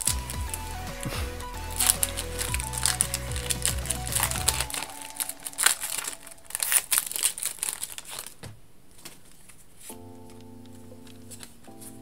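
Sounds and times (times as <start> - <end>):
foil wrapper crinkling and tearing: 0.0 - 8.4, 10.7 - 12.0.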